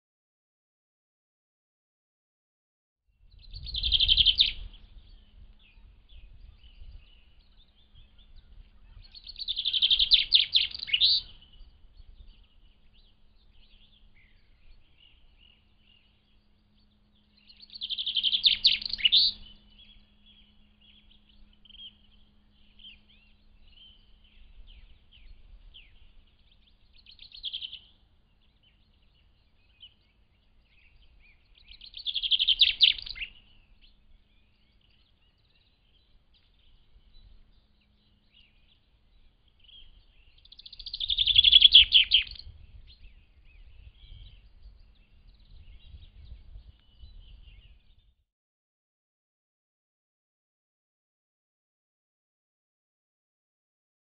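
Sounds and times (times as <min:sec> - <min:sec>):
soft bird chirps: 0:03.2 - 0:48.2
songbird singing phrases: 0:03.2 - 0:48.2.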